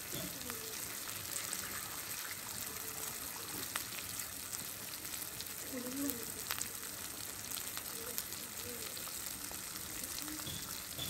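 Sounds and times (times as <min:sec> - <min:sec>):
curry sizzling in oil: 0:00.0 - 0:11.0.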